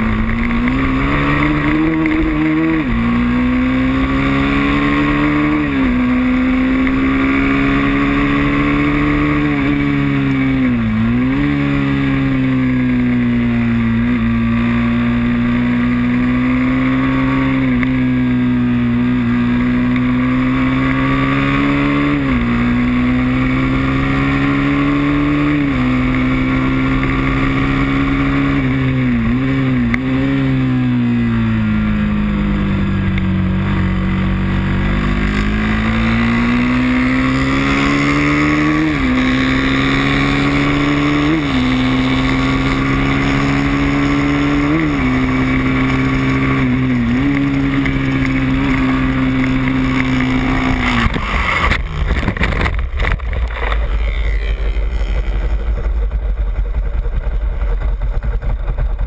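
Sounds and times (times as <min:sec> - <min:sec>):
racing motorcycle engine revving: 0:00.0 - 0:59.0.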